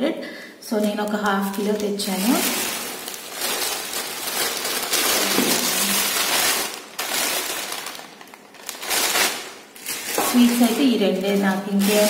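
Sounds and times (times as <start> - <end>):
plastic bag crinkling: 0.7 - 12.0.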